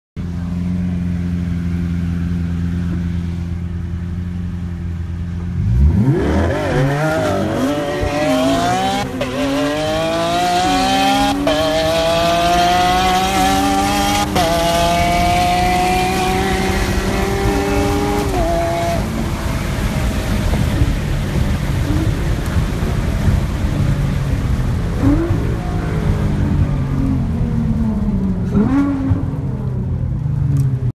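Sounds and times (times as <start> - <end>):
sports car engine revving: 0.3 - 30.2.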